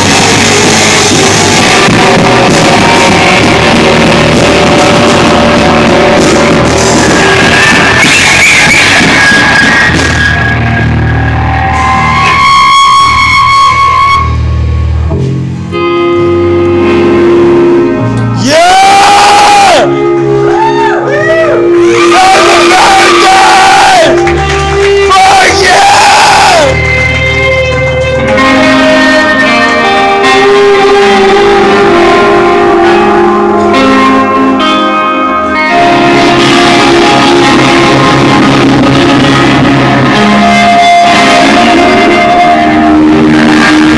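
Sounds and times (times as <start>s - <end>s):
electric guitar chords: 0.0s - 43.9s
live rock band playing: 0.0s - 43.9s.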